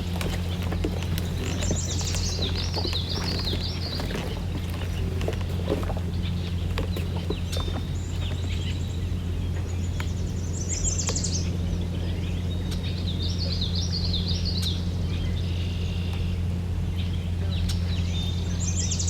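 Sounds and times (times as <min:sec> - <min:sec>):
songbirds trilling: 0:00.0 - 0:19.0.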